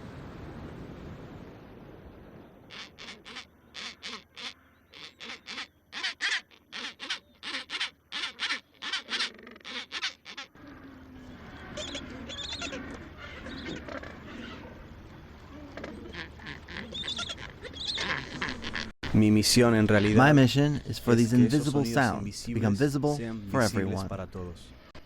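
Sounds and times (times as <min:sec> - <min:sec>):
many birds calling: 0:02.7 - 0:18.9, 0:19.6 - 0:24.9.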